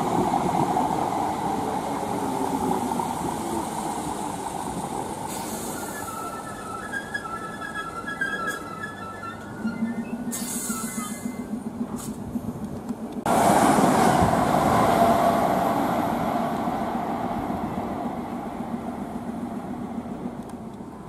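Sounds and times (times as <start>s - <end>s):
electric train low hum: 0.0s - 21.0s
train rumbling on rails: 0.0s - 21.0s.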